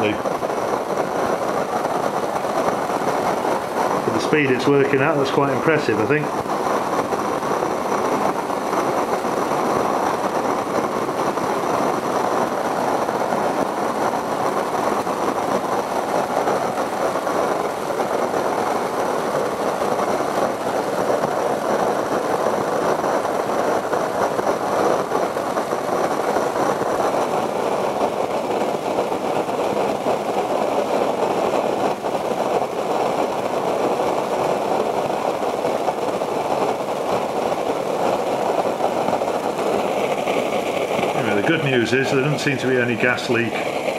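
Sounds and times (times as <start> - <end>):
stove jets roaring: 0.0 - 43.9.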